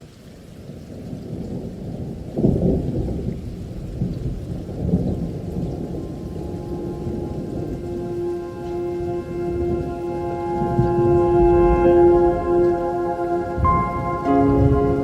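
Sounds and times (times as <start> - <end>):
rain: 0.0 - 15.0
thunder clap and rumble: 0.6 - 15.0.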